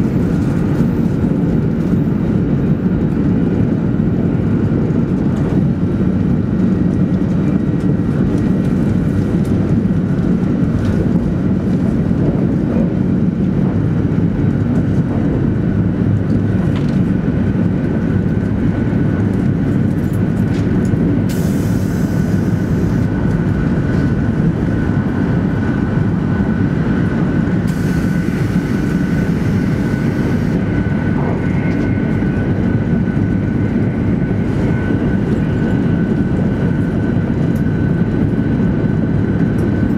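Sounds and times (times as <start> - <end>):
train wheels rumbling: 0.0 - 39.9.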